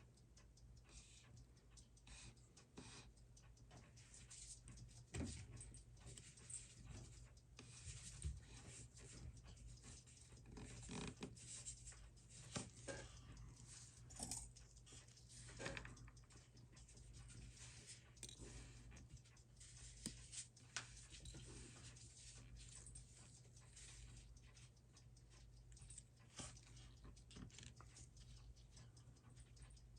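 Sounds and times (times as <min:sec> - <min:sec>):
faint clicks: 0:00.0 - 0:29.9
low room hum: 0:00.0 - 0:29.9.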